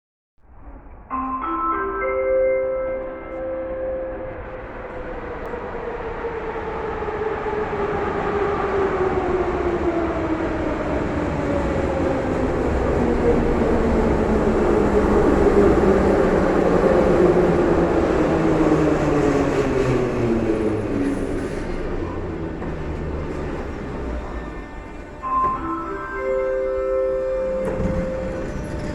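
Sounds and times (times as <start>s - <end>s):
train wheels rumbling: 4.2s - 28.9s.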